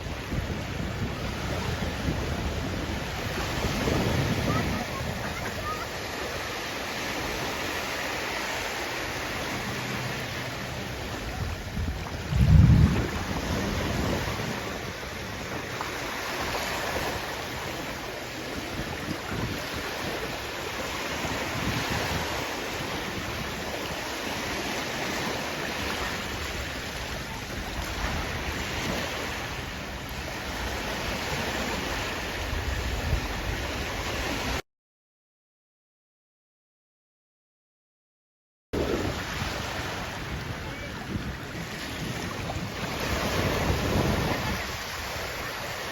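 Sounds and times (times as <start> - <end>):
wind buffeting microphone: 0.0 - 6.5, 9.4 - 34.6, 38.8 - 45.9
sea waves washing on shore: 0.0 - 34.6, 38.8 - 45.9.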